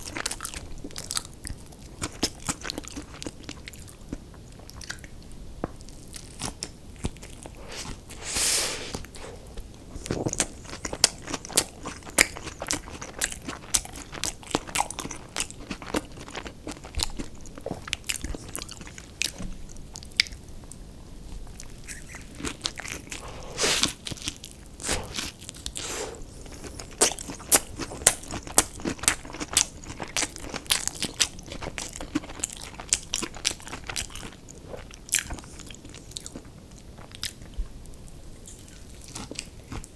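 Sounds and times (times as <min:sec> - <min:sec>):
crunching fried food: 0:00.0 - 0:05.1, 0:10.0 - 0:20.6, 0:21.4 - 0:37.6, 0:38.4 - 0:39.9.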